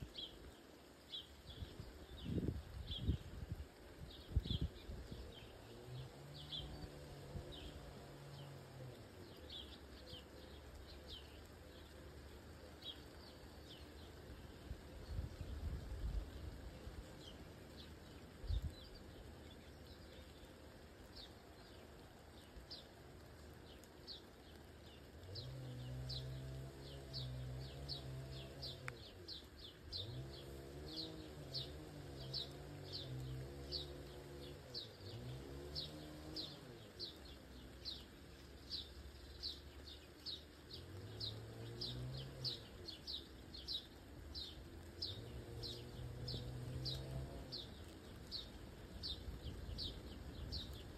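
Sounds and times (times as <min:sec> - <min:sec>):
bird chirping: 0:04.0 - 0:50.9.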